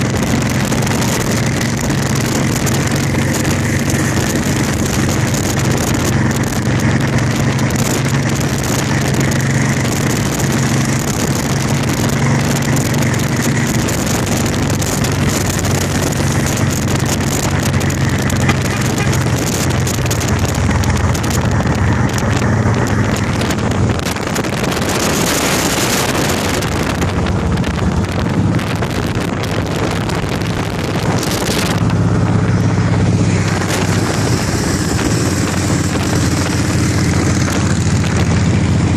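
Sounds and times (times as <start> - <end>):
motorcycle engines droning: 0.0 - 38.9
wind noise on microphone: 0.0 - 38.9.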